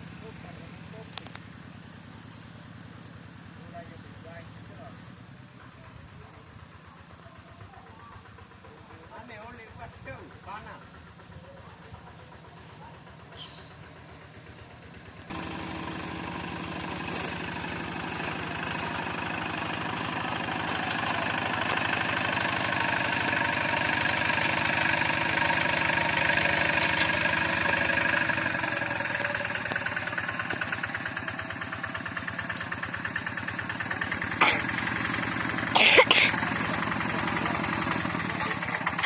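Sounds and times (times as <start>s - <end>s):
diesel tractor engine running: 0.0s - 39.0s.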